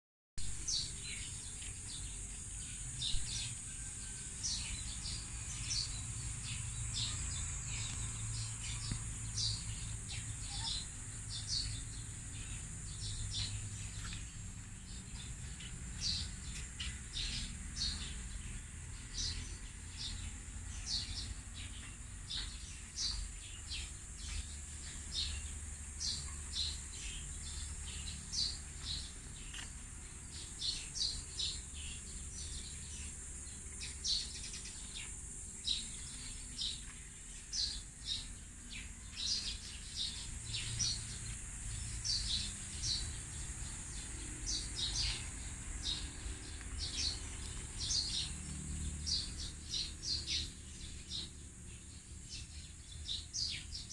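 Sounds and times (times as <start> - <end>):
small birds chirping: 0.4 - 53.9.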